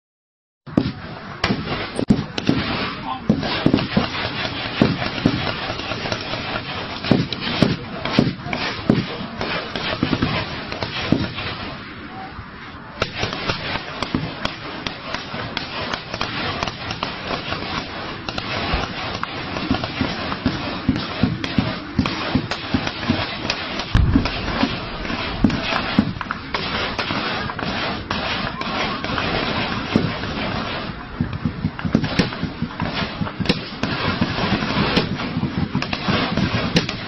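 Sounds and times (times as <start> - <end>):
heavy gunfire: 0.7 - 11.8, 13.0 - 37.0.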